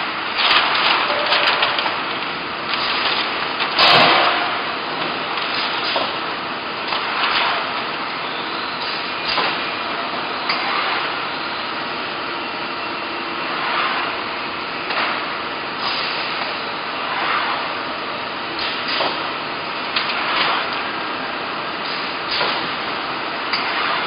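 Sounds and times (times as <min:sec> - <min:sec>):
welding press machine noise: 0:00.0 - 0:24.0.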